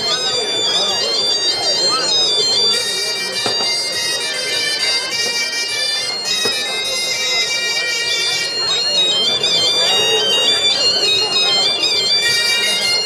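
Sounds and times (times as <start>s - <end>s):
bagpipes playing dance tune: 0.0s - 13.0s.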